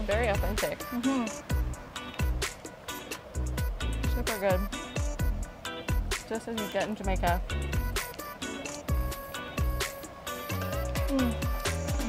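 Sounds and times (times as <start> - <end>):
stepping bass line: 0.0 - 2.6, 3.4 - 8.1, 8.9 - 9.9, 10.6 - 12.0.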